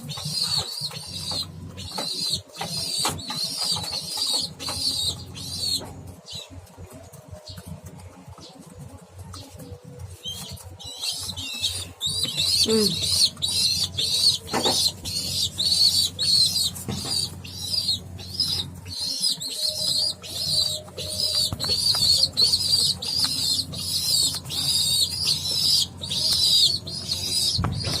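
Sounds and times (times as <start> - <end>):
young pigeon peeping: 0.0 - 28.0.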